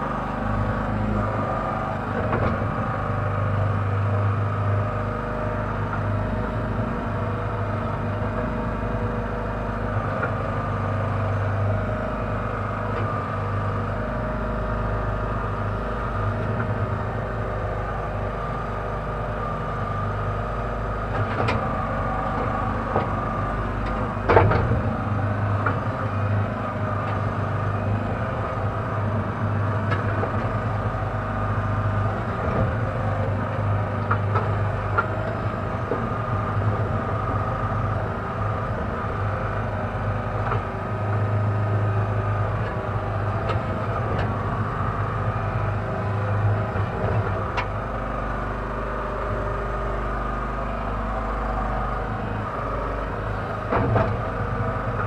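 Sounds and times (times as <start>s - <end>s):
backhoe engine running: 0.0s - 55.0s.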